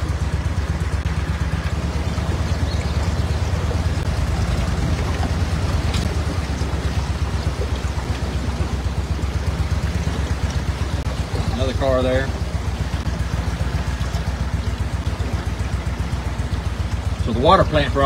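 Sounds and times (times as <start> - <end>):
boat motor running: 0.0 - 18.0
rushing water and air: 0.0 - 18.0.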